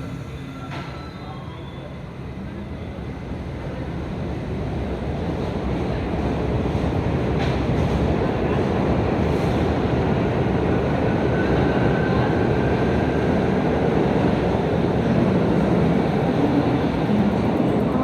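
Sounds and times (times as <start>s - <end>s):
subway train rumbling: 0.0s - 18.0s.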